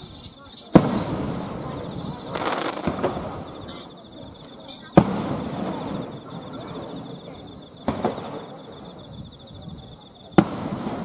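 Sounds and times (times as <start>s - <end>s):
firework bursts with echo: 0.0s - 11.0s
insects chirping: 0.0s - 11.0s.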